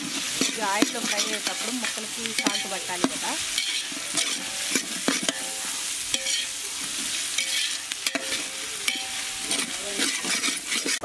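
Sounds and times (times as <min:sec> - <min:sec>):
metal spatula scraping a pot: 0:00.0 - 0:11.0
vegetables sizzling in a pot: 0:00.0 - 0:11.0.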